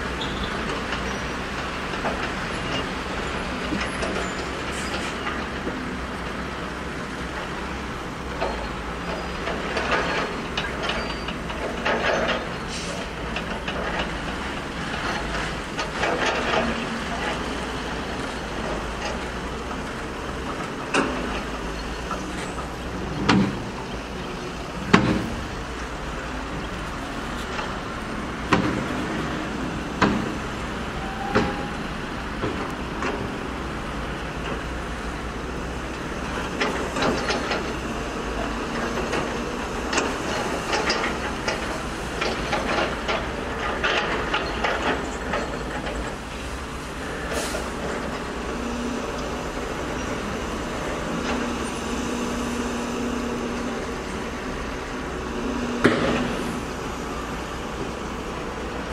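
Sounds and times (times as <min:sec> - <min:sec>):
diesel dump trucks running: 0:00.0 - 0:58.9.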